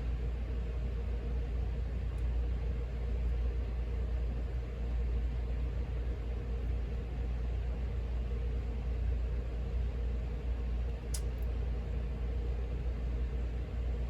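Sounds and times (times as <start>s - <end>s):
faint even hum: 0.0s - 14.0s
low background rumble: 0.0s - 14.0s.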